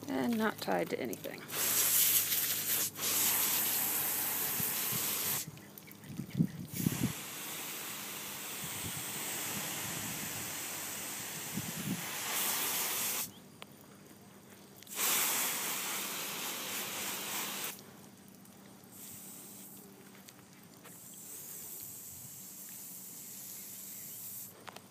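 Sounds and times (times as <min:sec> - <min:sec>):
water spraying from hose: 0:01.5 - 0:05.8, 0:06.6 - 0:13.4, 0:14.7 - 0:24.9.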